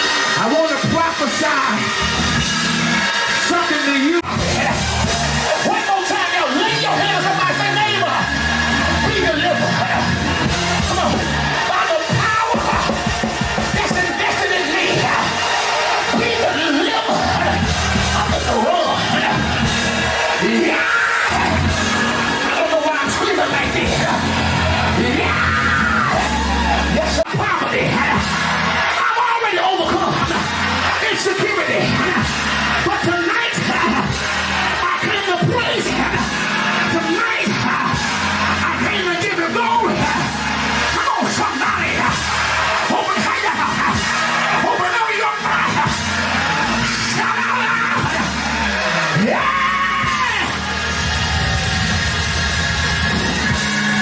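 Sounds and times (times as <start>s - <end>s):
voices shouting and singing: 0.0s - 54.0s
worship music with bass line: 0.0s - 54.0s.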